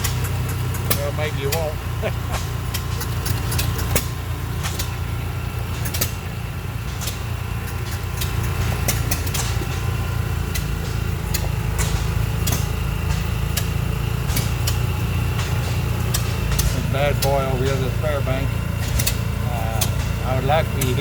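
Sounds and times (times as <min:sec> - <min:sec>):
old engines rumbling: 0:00.0 - 0:21.0
sharp engine pops: 0:00.0 - 0:21.0.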